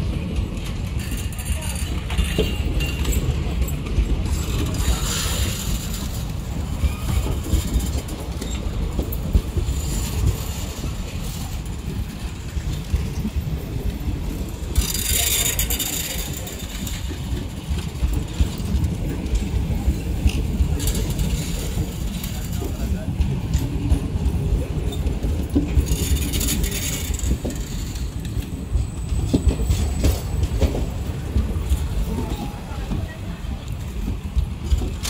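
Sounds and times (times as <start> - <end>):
train wheels rumbling on rails: 0.0 - 35.0
wheels clattering: 0.0 - 35.0.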